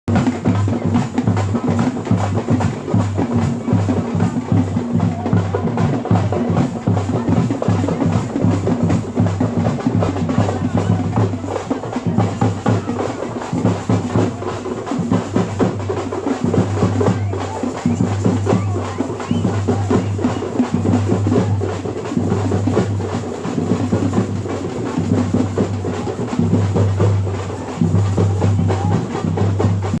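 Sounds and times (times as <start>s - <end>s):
music with drum beat and bass: 0.1s - 30.0s.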